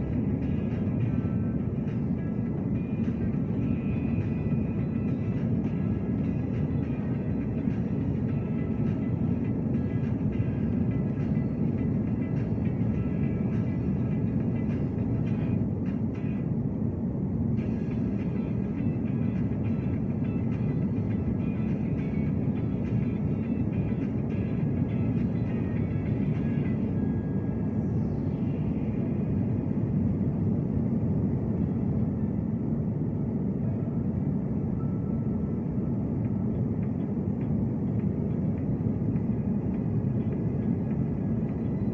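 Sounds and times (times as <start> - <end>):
airliner taking off: 0.0 - 41.9.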